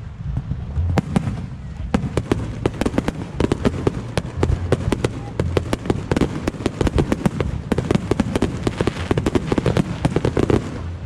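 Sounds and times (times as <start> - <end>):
fireworks cracking and popping: 0.0 - 11.0
low rumble: 0.0 - 11.0.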